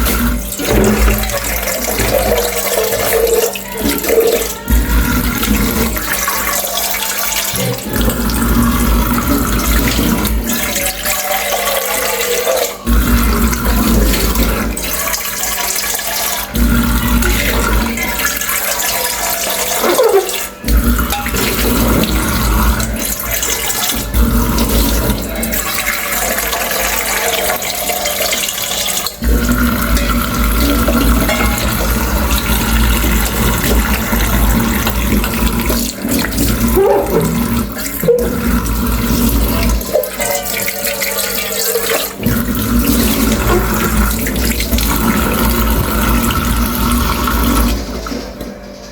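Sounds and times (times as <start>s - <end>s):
tap water running into sink: 0.0s - 48.9s.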